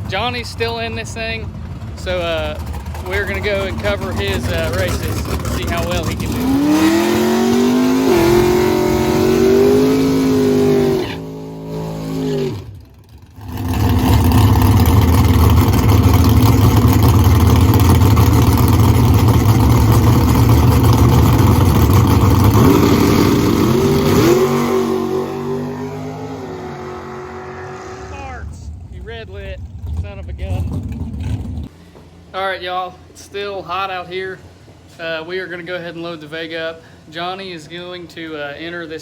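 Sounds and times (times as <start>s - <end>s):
race car engine revving: 0.0s - 31.8s
race car engine roaring: 0.0s - 31.8s.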